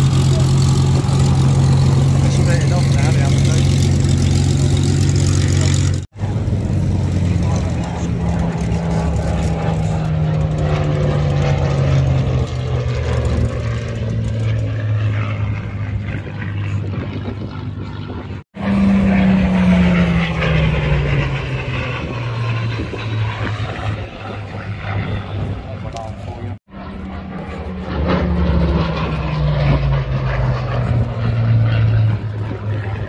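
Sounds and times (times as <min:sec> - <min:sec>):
propeller aircraft flying past: 0:00.0 - 0:33.0.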